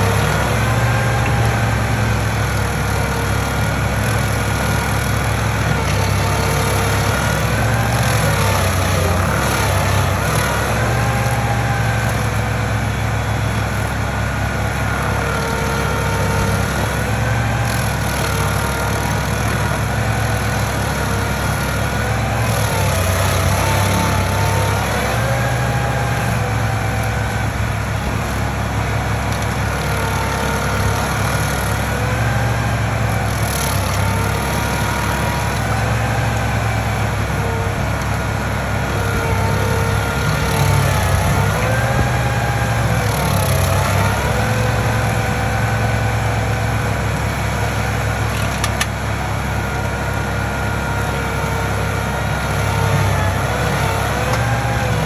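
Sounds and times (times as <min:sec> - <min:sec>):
heavy machinery engine running: 0:00.0 - 0:55.0.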